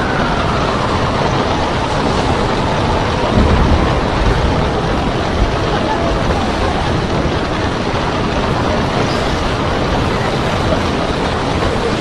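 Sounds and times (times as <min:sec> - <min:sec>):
sea waves breaking: 0:00.0 - 0:12.0
storm wind rushing: 0:00.0 - 0:12.0.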